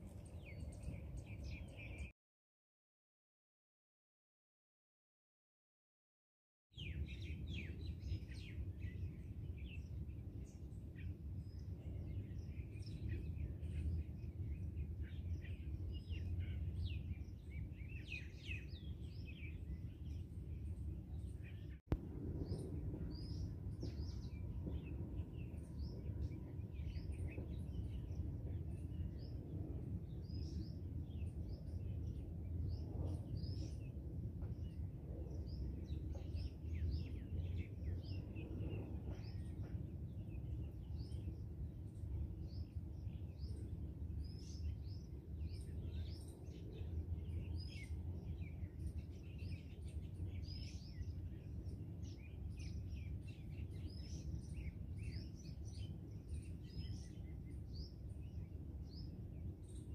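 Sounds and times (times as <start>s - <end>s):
small birds chirping: 0.0s - 2.1s, 6.8s - 59.9s
low background rumble: 7.1s - 59.9s.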